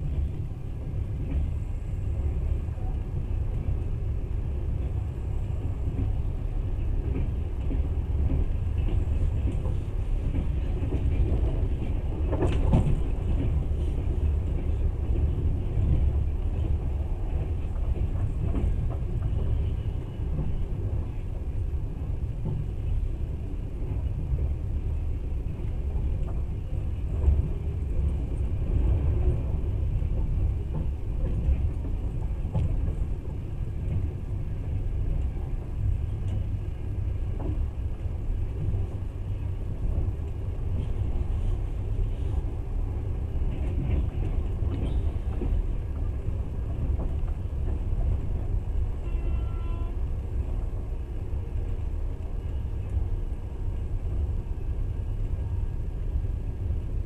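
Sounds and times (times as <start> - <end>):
train clatter: 0.0 - 57.0
train wheels rumbling on rails: 0.0 - 57.0.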